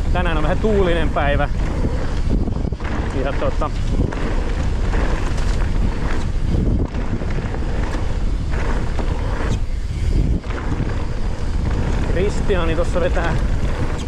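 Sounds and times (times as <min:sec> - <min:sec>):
wind on microphone: 0:00.0 - 0:14.0
bike knocking over bumps: 0:00.4 - 0:14.0.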